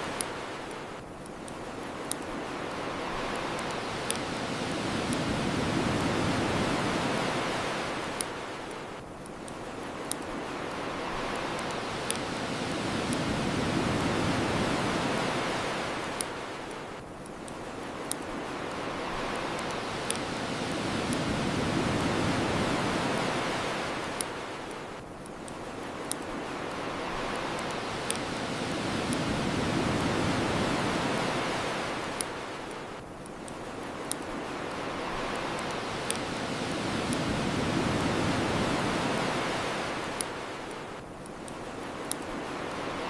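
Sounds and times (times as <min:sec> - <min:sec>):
ocean waves washing ashore: 0:00.0 - 0:43.0.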